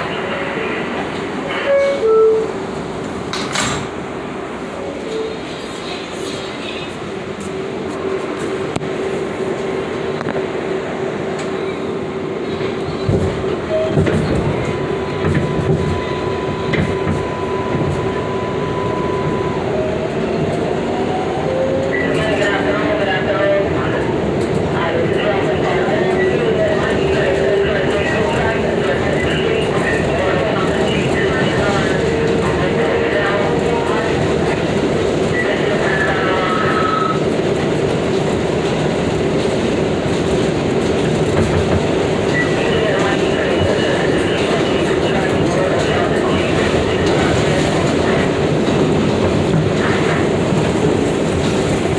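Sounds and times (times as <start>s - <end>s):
subway wheels rumbling on rail: 0.0s - 51.9s.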